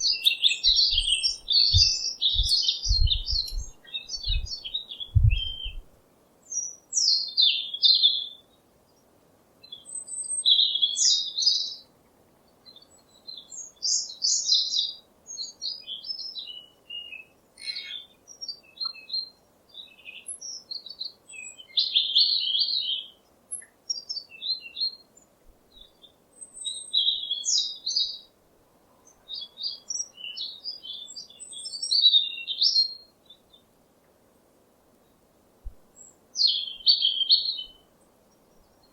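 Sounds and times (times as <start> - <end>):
songbirds chirping and trilling: 0.0 - 34.2, 35.9 - 38.9.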